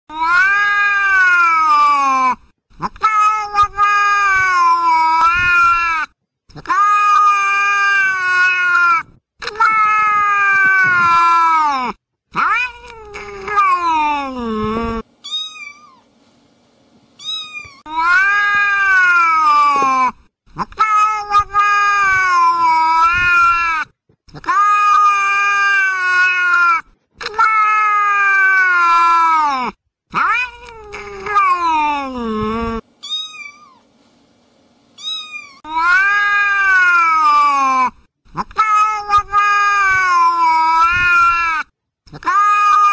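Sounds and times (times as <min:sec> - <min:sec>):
cat yowling: 0:00.1 - 0:16.0, 0:17.2 - 0:23.8, 0:24.4 - 0:33.8, 0:35.0 - 0:42.9.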